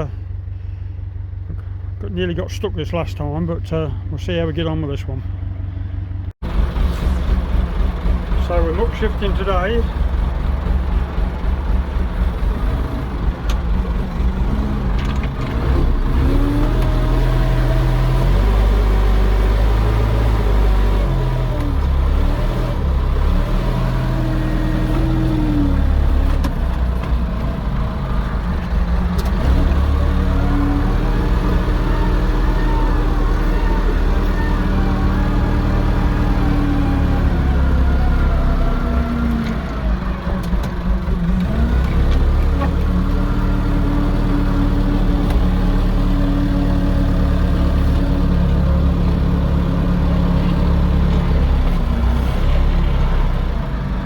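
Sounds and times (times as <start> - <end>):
tractor engine revving: 6.4 - 54.0.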